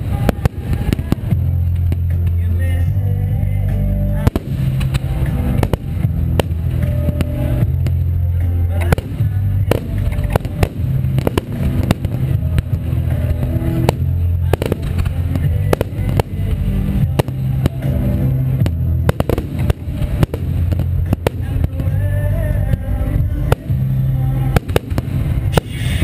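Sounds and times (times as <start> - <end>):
firework shells bursting: 0.0 - 2.9, 3.8 - 26.0
low rumble: 0.0 - 26.0.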